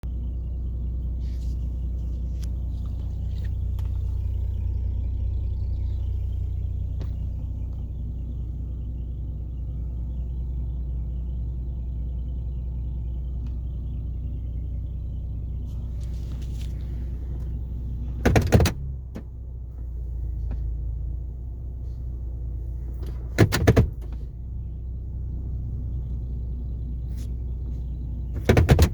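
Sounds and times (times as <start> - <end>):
car engine low rumble: 0.0 - 28.9.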